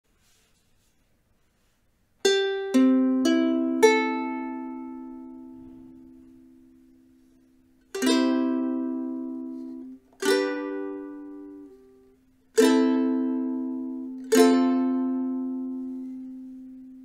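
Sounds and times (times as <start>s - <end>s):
ukulele chords strummed: 2.2s - 17.0s.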